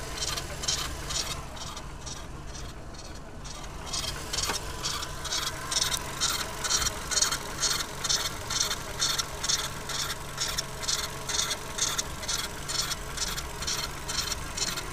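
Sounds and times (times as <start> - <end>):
car engine running: 0.0 - 14.9
rhythmic high-pitched squeak: 0.1 - 14.9.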